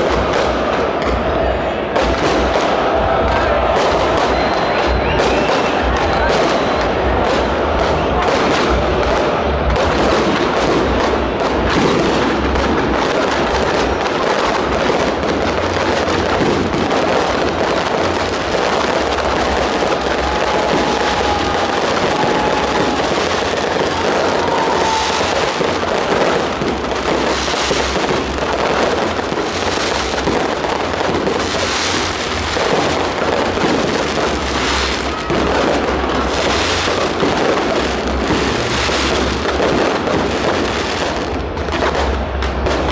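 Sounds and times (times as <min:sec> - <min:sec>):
fireworks crackling and banging: 0:00.0 - 0:42.9.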